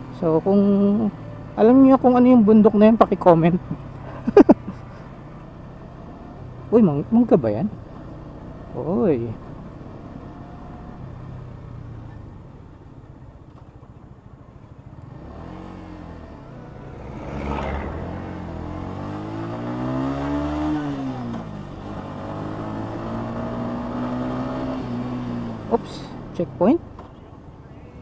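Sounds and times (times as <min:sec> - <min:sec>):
motorcycle engine accelerating: 0:00.0 - 0:12.5, 0:14.8 - 0:27.8.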